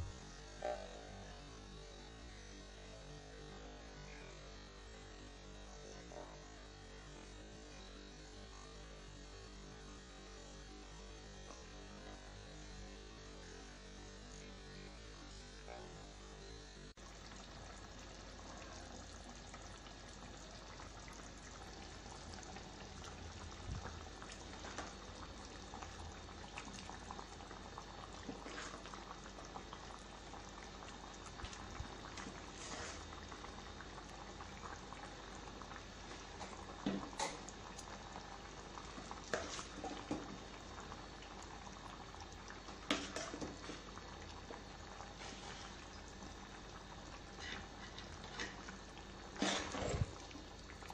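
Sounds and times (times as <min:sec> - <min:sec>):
gravy simmering and bubbling: 0:09.1 - 0:50.9.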